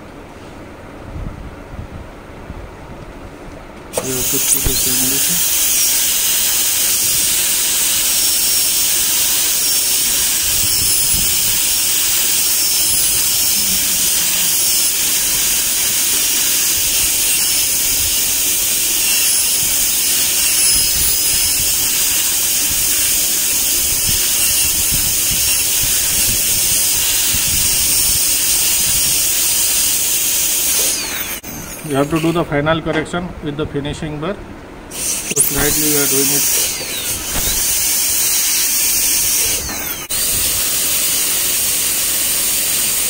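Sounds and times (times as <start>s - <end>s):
dental drill hiss and whine: 3.9s - 32.5s, 34.9s - 43.0s.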